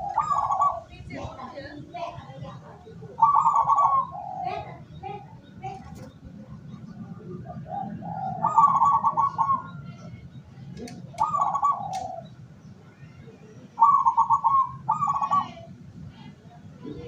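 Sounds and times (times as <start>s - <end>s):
dove cooing: 0.0s - 10.0s, 10.9s - 12.4s, 13.5s - 15.8s.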